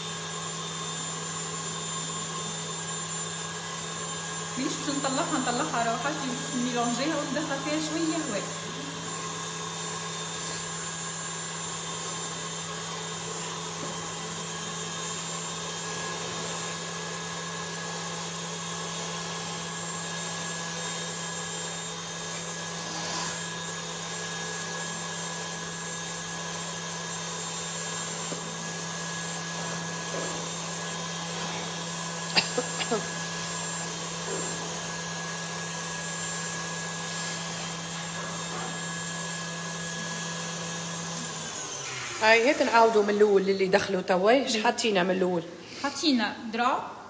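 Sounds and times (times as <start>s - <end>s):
stand mixer running: 0.0s - 45.1s.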